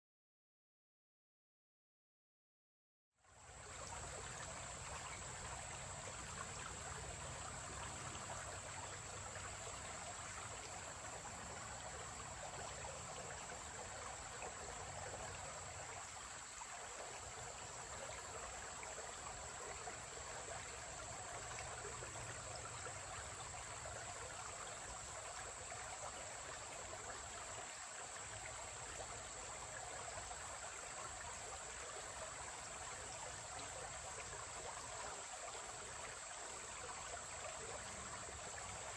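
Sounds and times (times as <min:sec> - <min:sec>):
creek trickling over rocks: 0:03.2 - 0:38.9.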